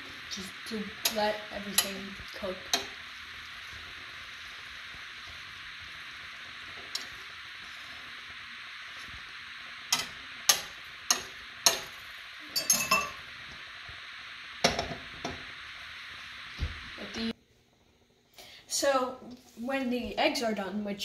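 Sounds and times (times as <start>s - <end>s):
eggs sizzling in a frying pan: 0.0s - 17.4s.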